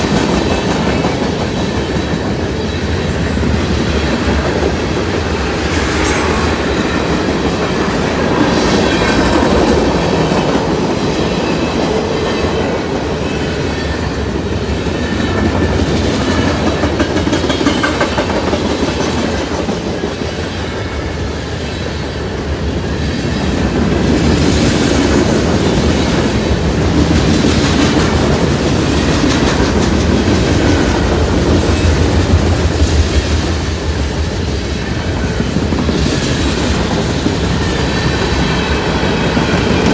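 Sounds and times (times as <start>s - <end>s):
train rumbling: 0.0s - 39.9s
train wheels clacking: 0.0s - 39.9s.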